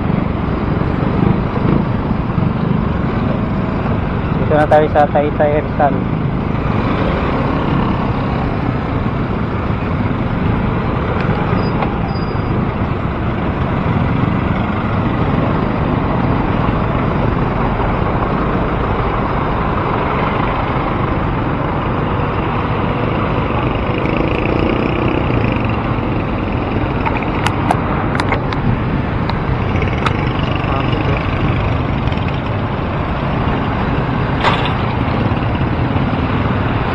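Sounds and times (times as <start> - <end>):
heavy road traffic: 0.0 - 36.9.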